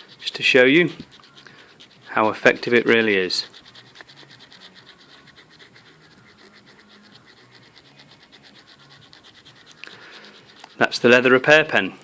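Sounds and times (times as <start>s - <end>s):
pen scratching on leather: 0.0s - 11.7s.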